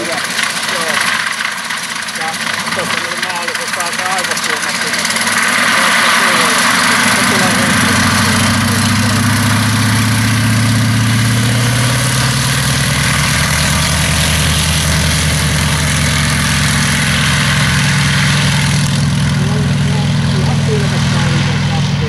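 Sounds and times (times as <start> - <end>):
propeller plane engine running: 0.0 - 22.0.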